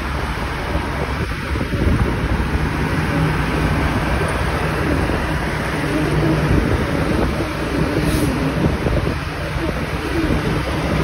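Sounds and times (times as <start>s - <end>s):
low engine hum: 0.0s - 11.0s
wind rushing over microphone: 0.0s - 11.0s.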